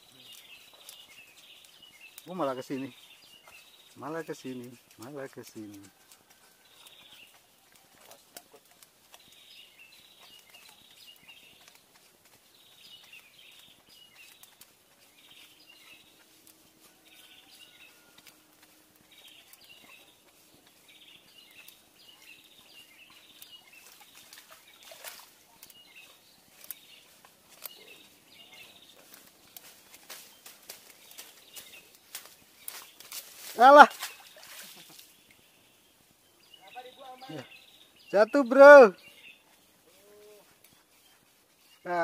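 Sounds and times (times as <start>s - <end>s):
faint outdoor background: 0.0s - 42.0s
small birds chirping: 0.0s - 42.0s.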